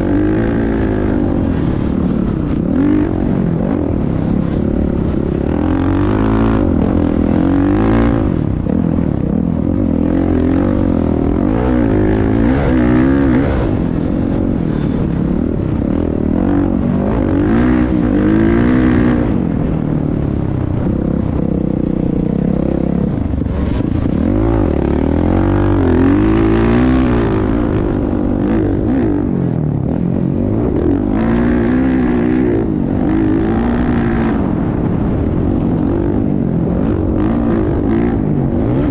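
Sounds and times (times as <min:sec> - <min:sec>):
motocross bike engine revving: 0:00.0 - 0:29.5, 0:30.3 - 0:38.9.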